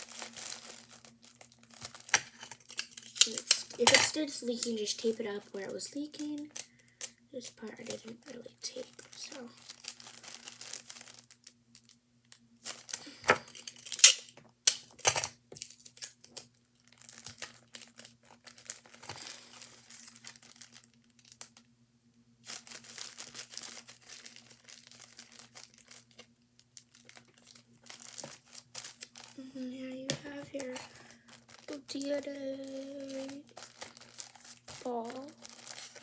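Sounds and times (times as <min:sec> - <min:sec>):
plastic bag crinkling: 0:00.0 - 0:14.3, 0:14.9 - 0:21.7, 0:22.4 - 0:36.0.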